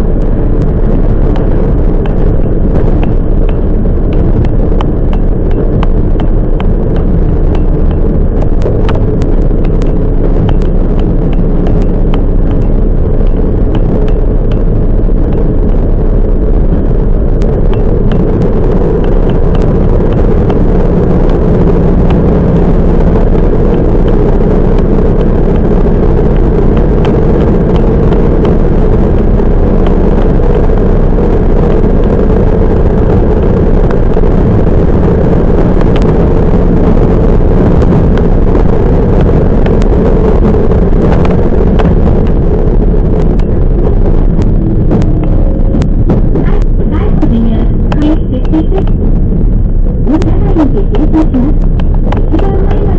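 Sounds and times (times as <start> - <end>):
train wheels rumbling on rail: 0.0 - 52.9
faint track clicks: 0.2 - 52.9.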